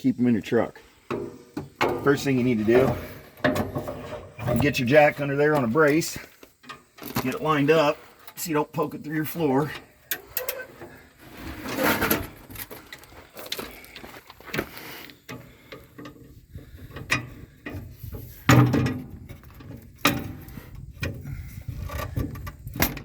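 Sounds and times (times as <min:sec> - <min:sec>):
metal jack clanking and scraping: 0:01.1 - 0:08.4, 0:09.6 - 0:13.0, 0:14.6 - 0:23.0.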